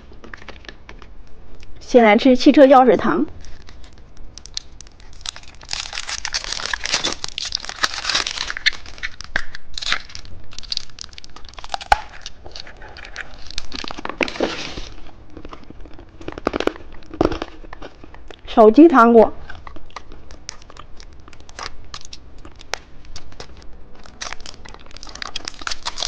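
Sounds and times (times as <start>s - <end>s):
plastic wrapper crinkling and tearing: 3.3s - 18.5s, 19.4s - 26.0s.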